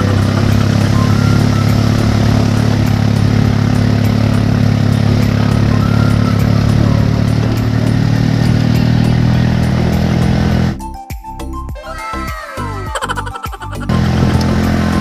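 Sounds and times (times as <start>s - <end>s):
road and wind noise: 0.0s - 10.8s, 13.7s - 15.0s
vehicle engine running: 0.0s - 10.8s, 12.9s - 15.0s.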